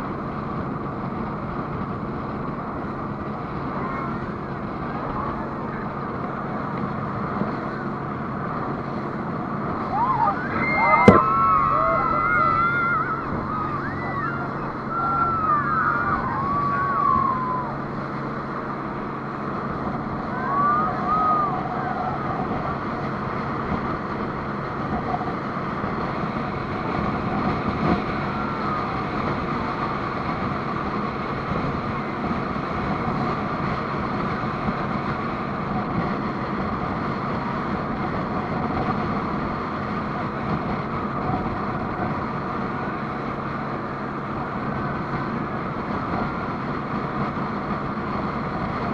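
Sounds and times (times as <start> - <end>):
speedboat engine running: 0.0 - 48.9
wind and water rushing: 0.0 - 48.9.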